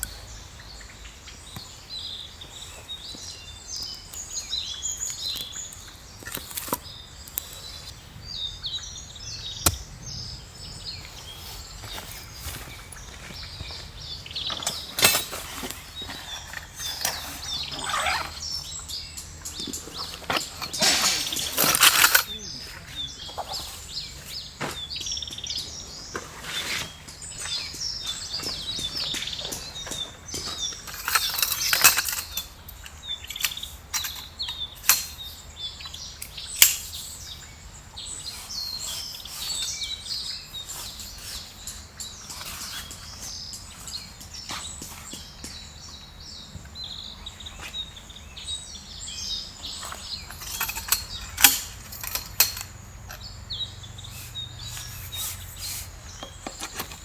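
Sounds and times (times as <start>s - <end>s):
forest birds chirping: 0.0s - 57.0s.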